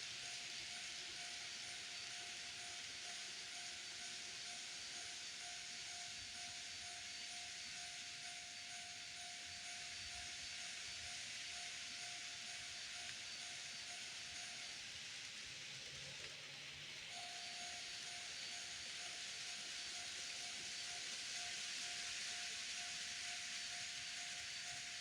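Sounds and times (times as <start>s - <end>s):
faint steady tone: 0.0s - 25.0s
model train running on track: 0.0s - 25.0s.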